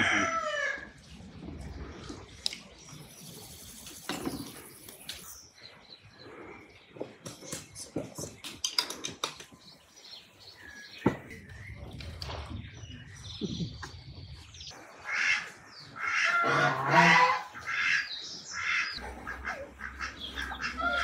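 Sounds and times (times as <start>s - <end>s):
birds chirping: 0.2s - 21.0s.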